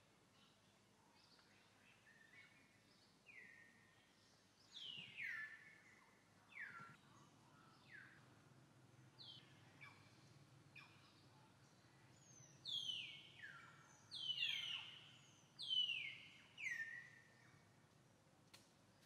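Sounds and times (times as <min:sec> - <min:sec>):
birds calling faintly: 0:00.3 - 0:08.2, 0:09.0 - 0:19.0.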